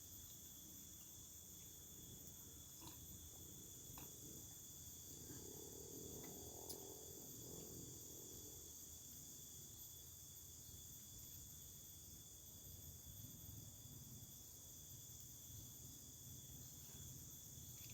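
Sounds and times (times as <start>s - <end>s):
crickets chirping: 0.0s - 17.9s.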